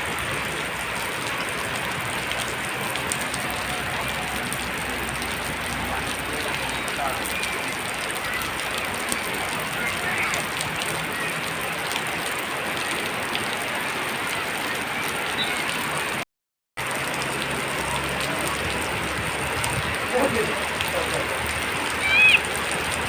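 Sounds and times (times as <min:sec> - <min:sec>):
heavy rain falling: 0:00.0 - 0:16.2, 0:16.8 - 0:23.0.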